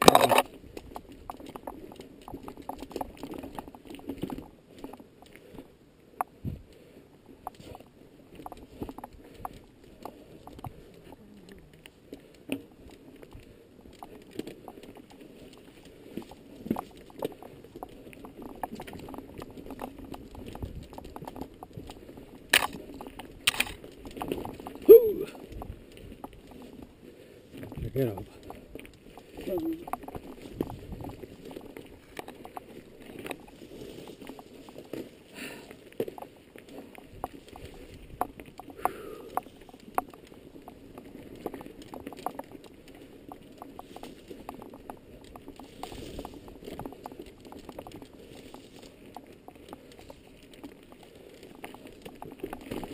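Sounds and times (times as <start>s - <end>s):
bike rattling: 0.0s - 5.8s, 7.2s - 52.9s
tyres rolling on gravel: 7.3s - 52.9s.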